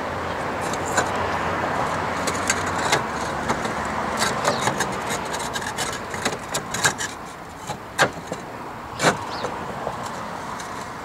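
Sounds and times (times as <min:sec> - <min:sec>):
roof tiles scraping: 0:00.4 - 0:11.0.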